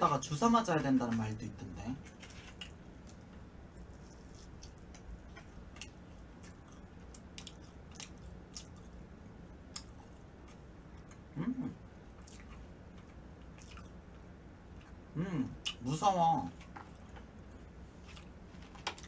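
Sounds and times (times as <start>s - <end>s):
steady low hum: 0.0s - 19.0s
chewing with small crunches: 2.0s - 11.3s, 12.0s - 15.8s, 16.5s - 19.0s.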